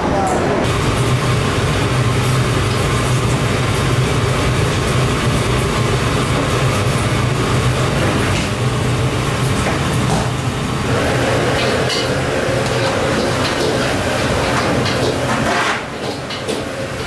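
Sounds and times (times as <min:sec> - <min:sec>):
kitchen machinery drone: 0:00.0 - 0:17.0.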